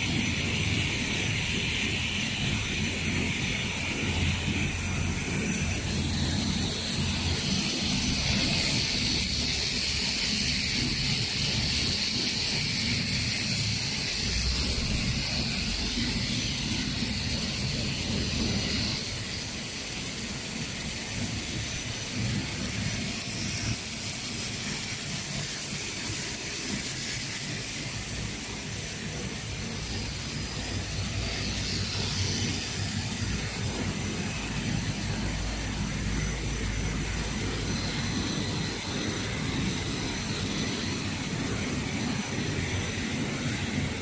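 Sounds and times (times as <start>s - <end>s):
hiss: 0.0s - 44.0s
machine humming: 0.0s - 44.0s.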